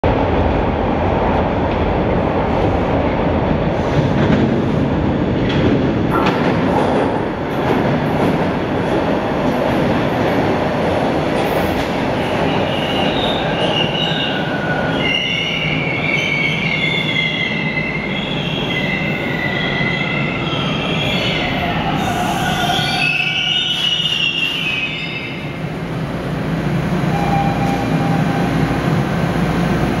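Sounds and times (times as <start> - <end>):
subway train rumble: 0.0 - 30.0
train hum: 0.0 - 30.0.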